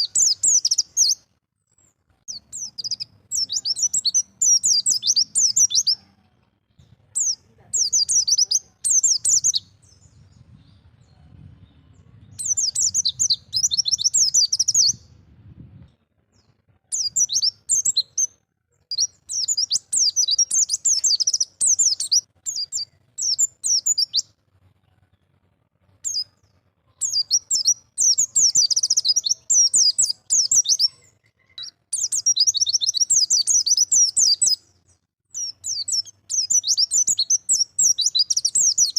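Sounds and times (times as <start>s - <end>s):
bird twittering song: 0.0s - 15.5s, 16.3s - 24.4s, 26.0s - 38.9s.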